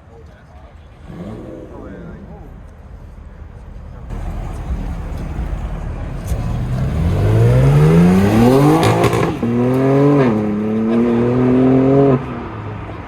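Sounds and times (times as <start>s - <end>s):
car engine accelerating: 0.4s - 13.0s.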